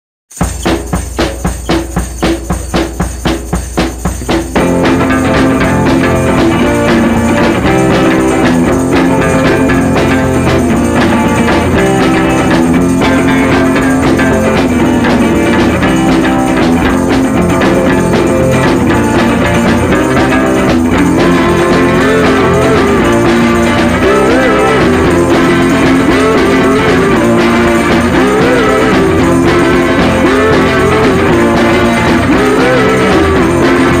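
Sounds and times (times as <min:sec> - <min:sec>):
rock music with guitar: 0:00.4 - 0:34.0.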